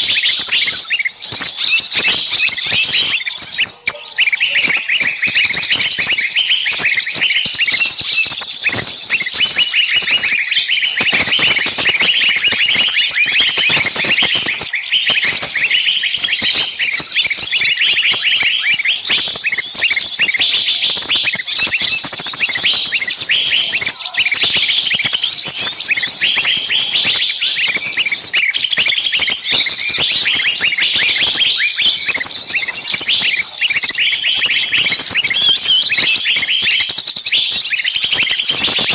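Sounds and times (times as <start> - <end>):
small birds shrill chirping chorus: 0.0 - 38.9.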